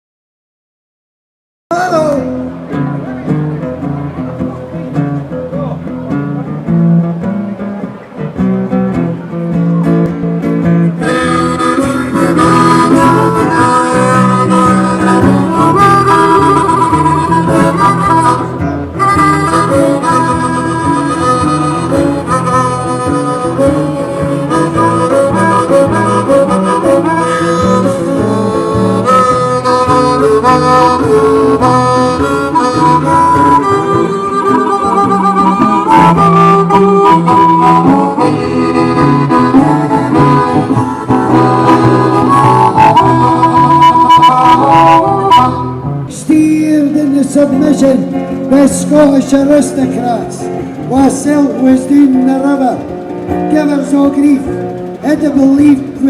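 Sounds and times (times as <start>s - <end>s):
guitar accompaniment: 1.7s - 56.0s
instrumental music: 1.7s - 56.0s
harmonica melody: 8.3s - 56.0s.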